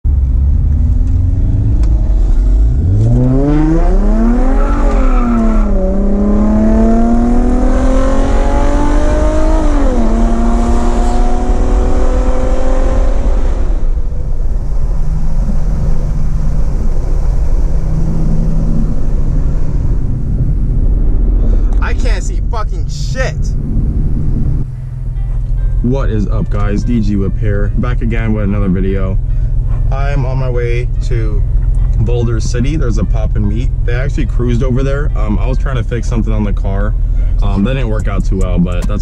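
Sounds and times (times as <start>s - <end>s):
car engine revving: 0.1s - 39.0s.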